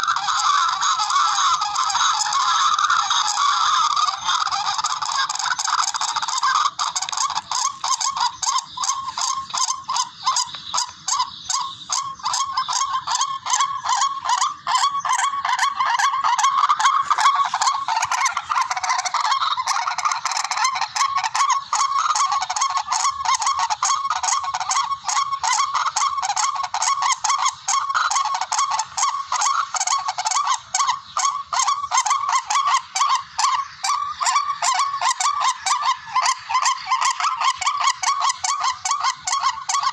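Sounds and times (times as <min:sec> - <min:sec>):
recorded rail bird calls: 0:00.0 - 0:39.9.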